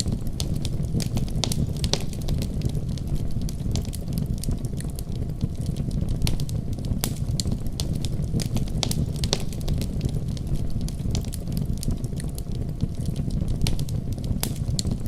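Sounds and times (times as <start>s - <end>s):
snowstorm rumble: 0.0s - 15.0s
wood fire crackling and popping: 0.0s - 15.0s.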